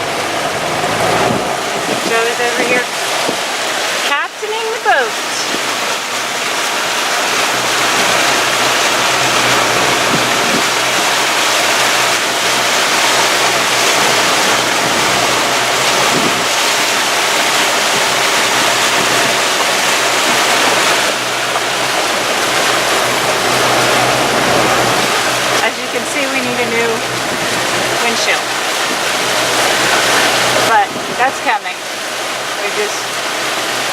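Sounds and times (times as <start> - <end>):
wind over microphone: 0.0 - 4.0, 5.0 - 31.7
faint low engine hum: 0.0 - 33.9
water rushing along hull: 0.0 - 33.9.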